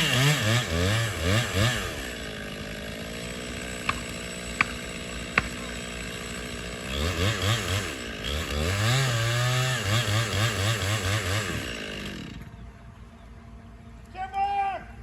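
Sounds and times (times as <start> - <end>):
chainsaw engine revving: 0.0 - 12.6.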